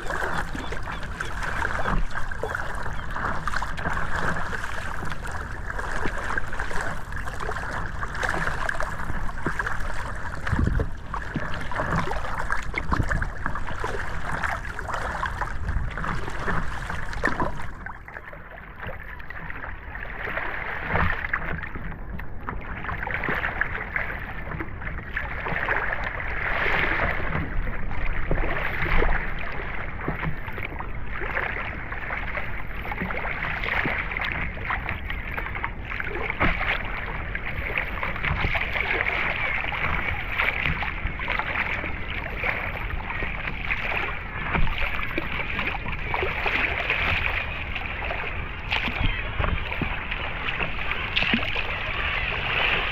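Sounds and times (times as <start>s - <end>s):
underwater water rushing: 0.0s - 52.9s.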